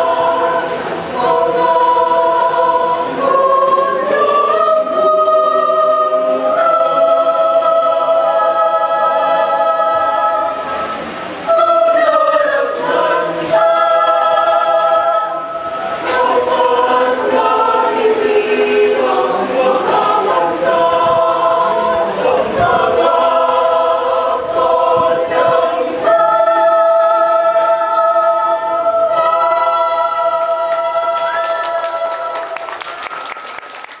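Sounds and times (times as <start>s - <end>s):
mixed choir singing: 0.0s - 34.0s.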